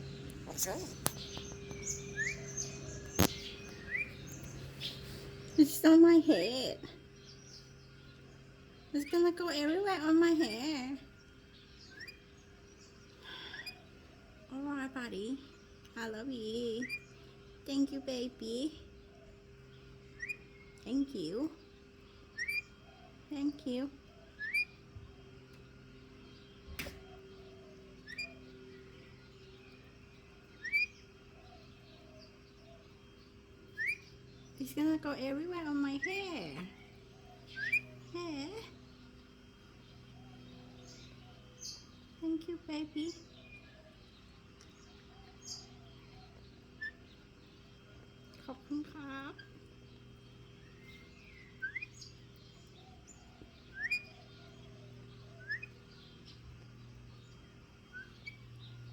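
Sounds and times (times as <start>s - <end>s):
bird chirping: 0.0s - 58.9s
steady low hum: 0.0s - 58.9s.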